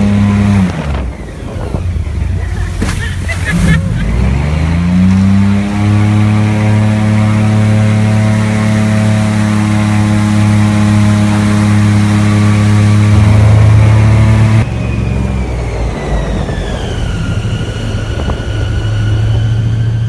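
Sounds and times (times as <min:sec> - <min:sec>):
airboat engine and propeller drone: 0:00.0 - 0:20.0.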